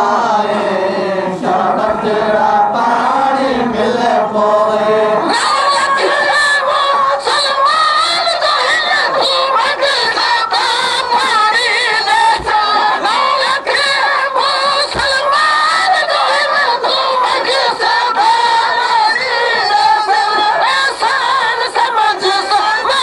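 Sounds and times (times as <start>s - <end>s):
voices chanting a lament: 0.0s - 23.0s.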